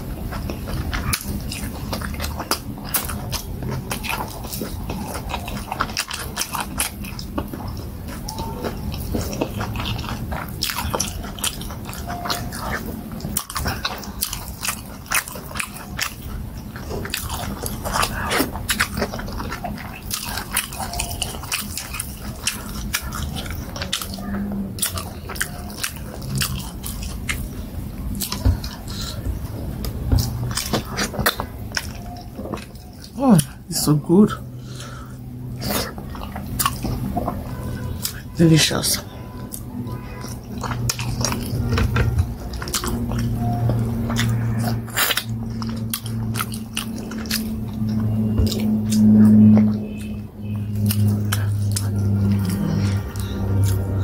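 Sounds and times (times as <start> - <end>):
wet chewing and lip smacks: 0.0 - 54.0.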